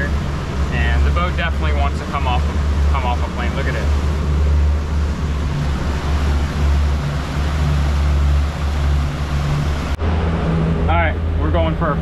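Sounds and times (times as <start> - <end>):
outboard motors running: 0.0 - 12.0
steady rushing noise: 0.0 - 12.0.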